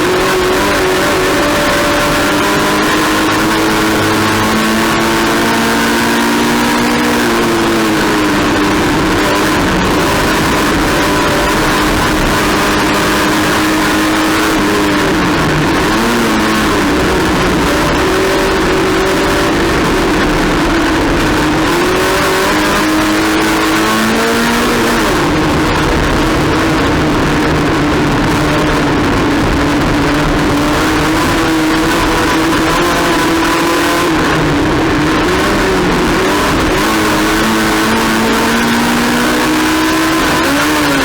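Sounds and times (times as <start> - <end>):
constant rush of noise: 0.0 - 41.0
race car engine running hard: 0.0 - 41.0.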